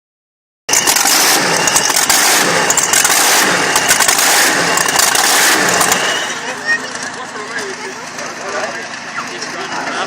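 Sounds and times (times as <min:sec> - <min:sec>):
loud engine under hard throttle: 0:00.7 - 0:10.0.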